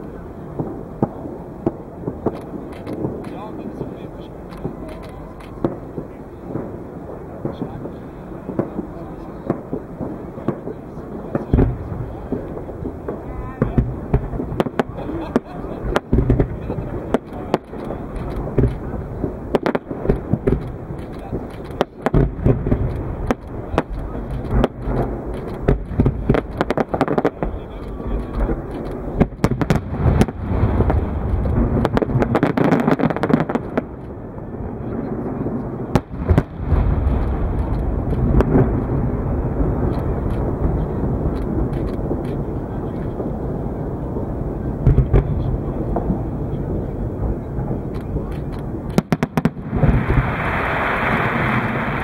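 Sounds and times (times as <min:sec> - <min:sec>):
fireworks bangs and crackles: 0:00.0 - 0:52.0
steady low rumble: 0:00.0 - 0:52.0.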